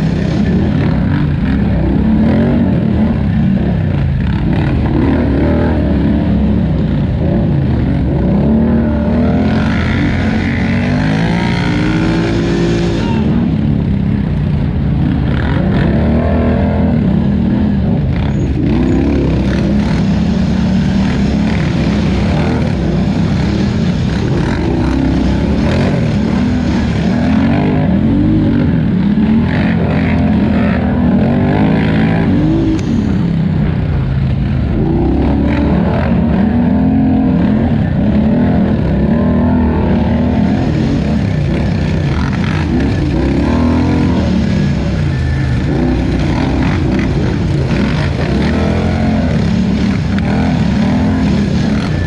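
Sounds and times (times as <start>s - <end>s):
atv engine revving: 0.0s - 52.0s.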